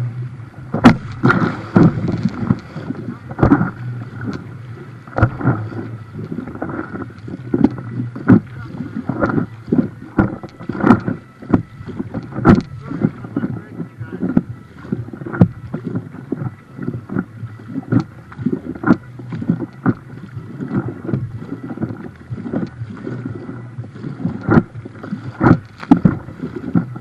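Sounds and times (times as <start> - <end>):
continuous water wash: 0.0 - 27.0
water slapping against boat hull: 0.0 - 27.0.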